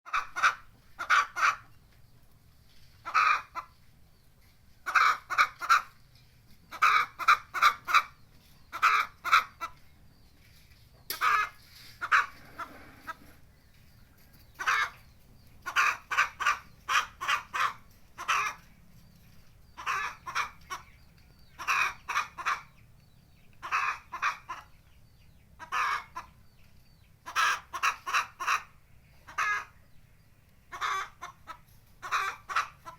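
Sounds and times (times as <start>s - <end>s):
chicken clucking: 0.1s - 30.0s, 30.6s - 32.9s.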